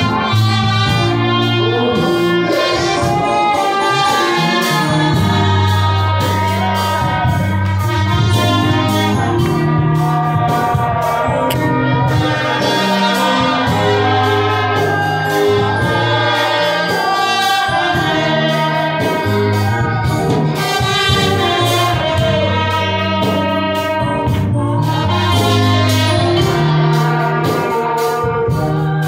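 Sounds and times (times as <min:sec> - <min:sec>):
choir singing gospel music: 0:00.0 - 0:29.0.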